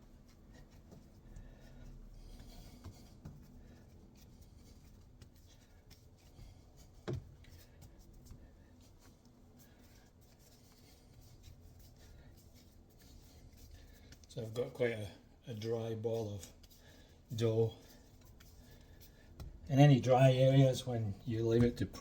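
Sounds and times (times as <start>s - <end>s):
hands kneading dough: 0.0s - 22.0s.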